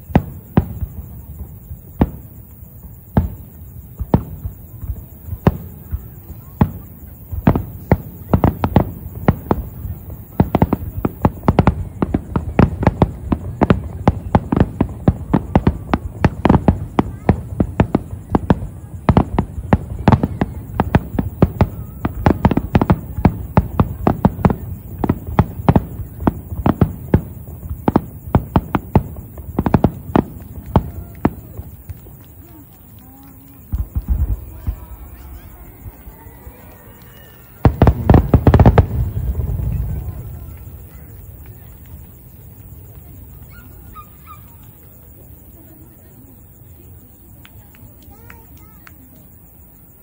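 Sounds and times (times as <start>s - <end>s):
fireworks bursting: 0.0s - 50.0s.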